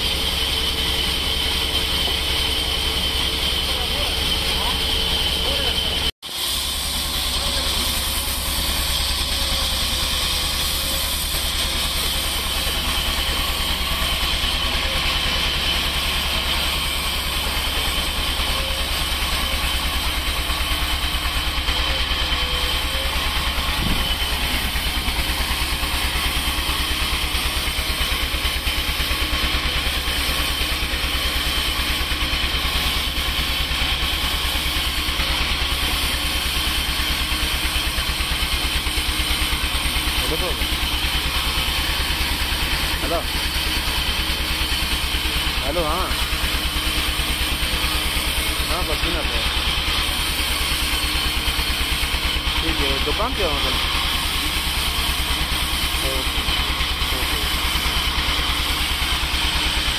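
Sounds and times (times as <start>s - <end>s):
band sawmill drone: 0.0s - 59.9s.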